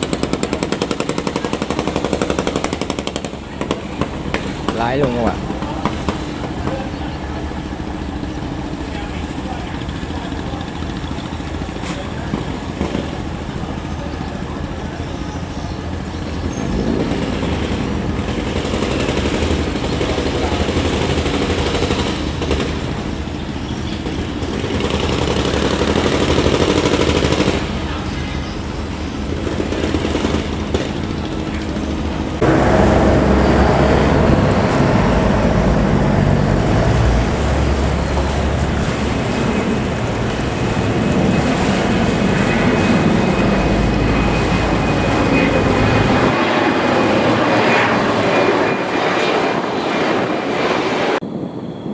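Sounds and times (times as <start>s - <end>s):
boat engines running: 0.0s - 48.5s
broad rushing noise: 0.0s - 51.9s.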